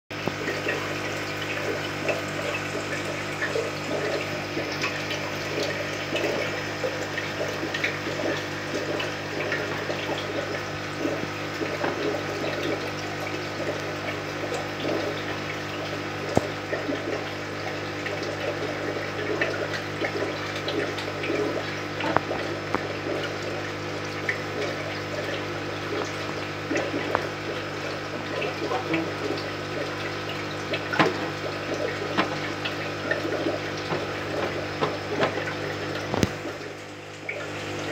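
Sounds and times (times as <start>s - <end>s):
aquarium pump humming: 0.1s - 37.9s
water bubbling and trickling: 0.1s - 37.9s.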